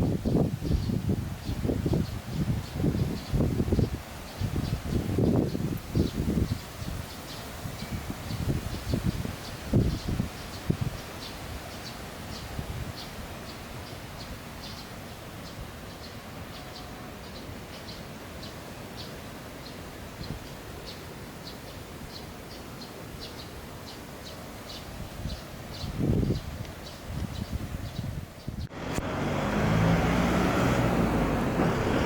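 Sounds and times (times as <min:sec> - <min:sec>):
low outdoor background noise: 0:00.0 - 0:32.0.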